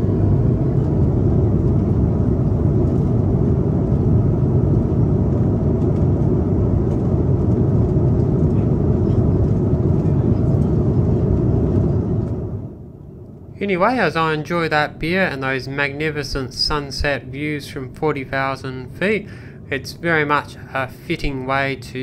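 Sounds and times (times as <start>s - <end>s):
airliner cabin engine and airflow noise: 0.0s - 22.0s.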